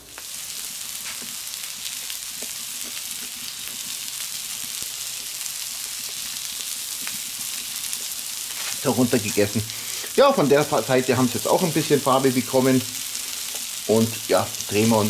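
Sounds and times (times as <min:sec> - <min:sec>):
small crackles: 0:00.0 - 0:10.2, 0:12.8 - 0:15.0
meat sizzling on hot plate: 0:00.0 - 0:15.0.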